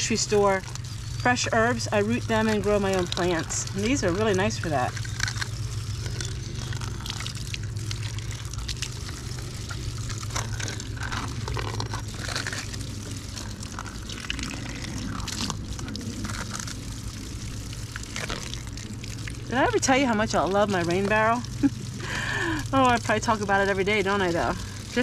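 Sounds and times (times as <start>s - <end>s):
steady low hum: 0.0s - 25.0s
water pouring and splashing: 0.0s - 25.0s.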